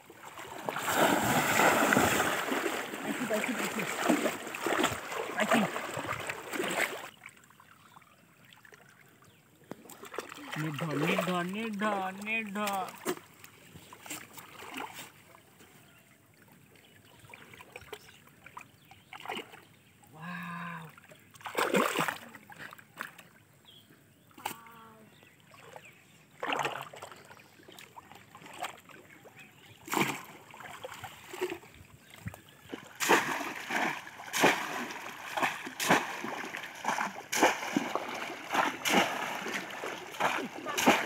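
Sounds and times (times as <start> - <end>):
pond water splashing: 0.0 - 23.6, 24.2 - 41.0.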